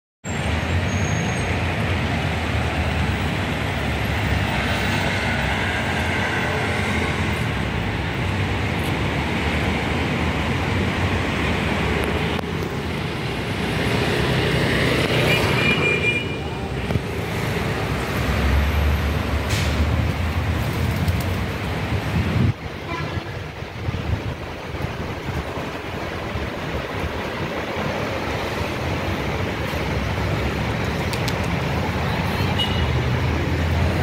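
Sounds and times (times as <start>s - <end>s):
city road traffic: 0.2s - 34.0s.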